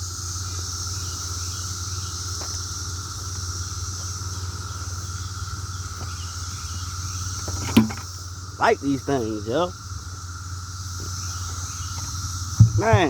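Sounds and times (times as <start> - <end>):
cicadas droning: 0.0 - 13.0
steady low hum: 0.0 - 13.0.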